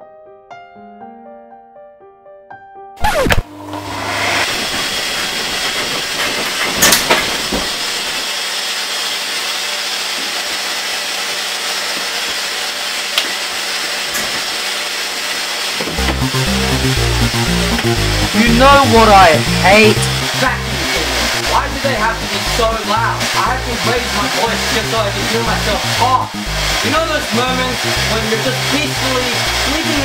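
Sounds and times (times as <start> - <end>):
vacuum cleaner running: 3.0 - 30.0.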